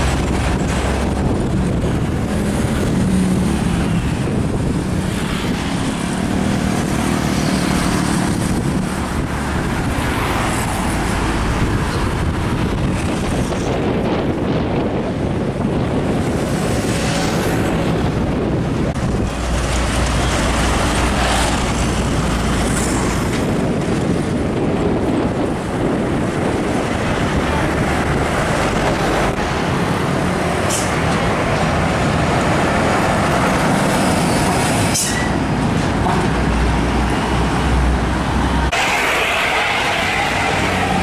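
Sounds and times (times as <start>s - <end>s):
diesel trucks passing: 0.0s - 41.0s.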